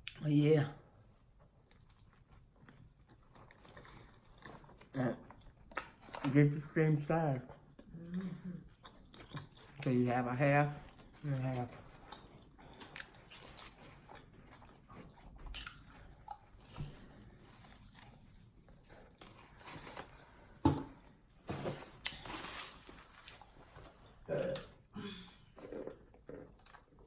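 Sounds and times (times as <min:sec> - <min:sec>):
person chewing sandwich: 0:01.2 - 0:06.3, 0:07.6 - 0:09.9, 0:10.8 - 0:27.0.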